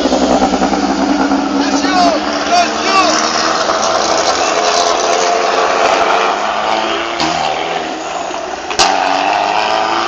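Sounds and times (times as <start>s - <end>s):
car engines at low revs: 0.0s - 10.0s.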